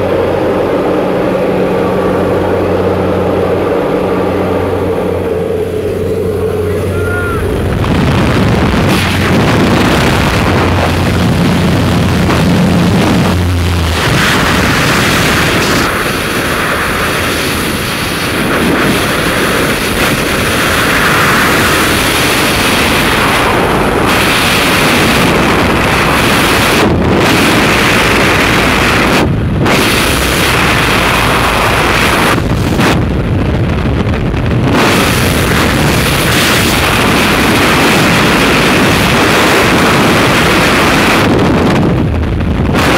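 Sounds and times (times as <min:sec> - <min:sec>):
airplane engine drone: 0:00.0 - 0:42.9
freefall wind buffeting microphone: 0:00.0 - 0:42.9.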